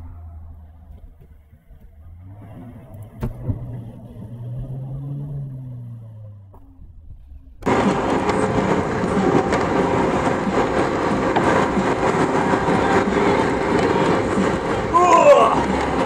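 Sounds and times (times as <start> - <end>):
car rattling over dirt track: 0.0 - 16.0.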